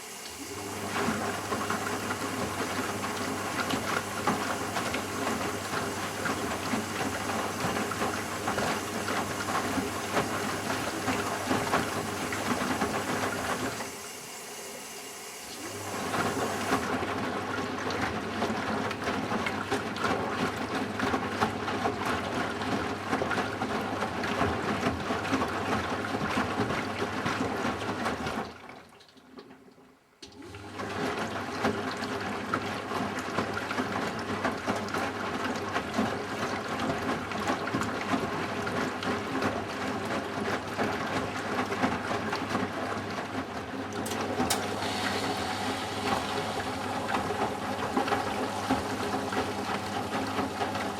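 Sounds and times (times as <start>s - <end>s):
washing machine drum tumbling laundry: 0.0s - 14.2s, 15.3s - 28.6s, 30.3s - 50.9s
washing machine motor hum: 0.0s - 28.3s, 30.3s - 50.9s.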